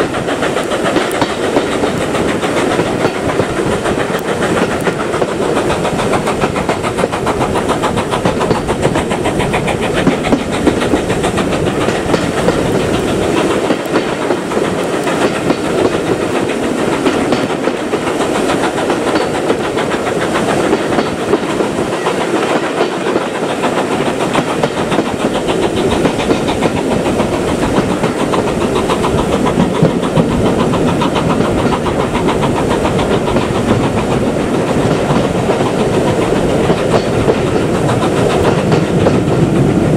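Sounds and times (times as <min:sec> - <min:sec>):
steam train wheels clattering: 0:00.0 - 0:39.9.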